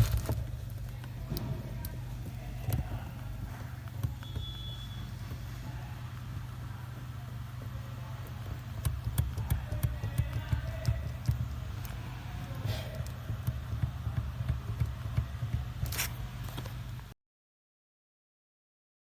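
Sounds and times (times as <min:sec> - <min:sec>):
hand tools clicking and knocking: 0:00.0 - 0:16.9
steady low hum: 0:00.0 - 0:17.2.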